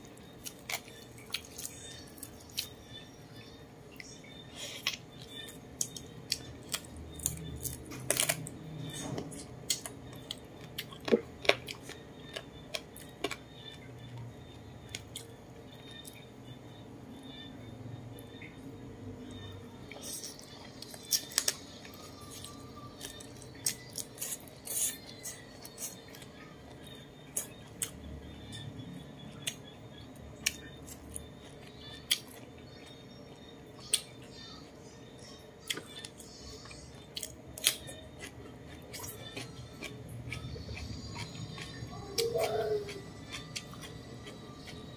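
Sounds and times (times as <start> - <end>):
close chewing and crunching: 0.0 - 3.0, 4.0 - 16.3, 19.4 - 44.9
faint steady hum: 0.0 - 44.9.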